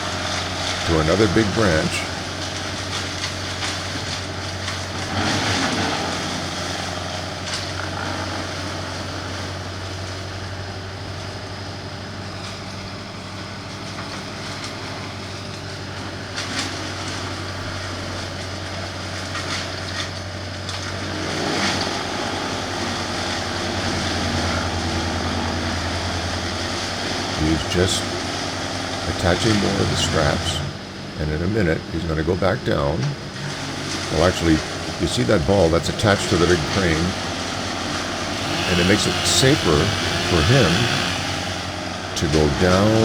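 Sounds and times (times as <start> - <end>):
truck engine droning: 0.0 - 43.0.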